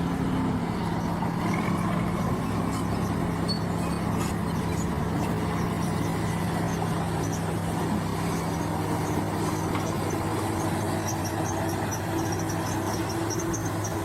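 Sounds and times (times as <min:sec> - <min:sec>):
bulldozer engine humming: 0:00.0 - 0:14.0.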